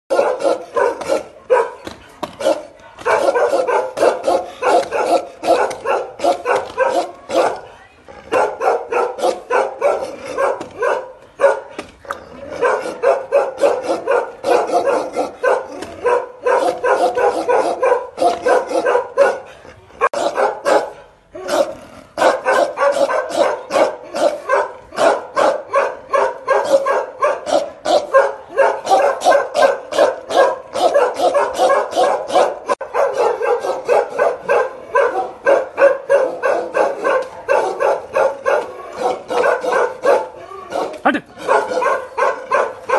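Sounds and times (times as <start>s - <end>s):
dog barking aggressively: 0.1s - 42.9s.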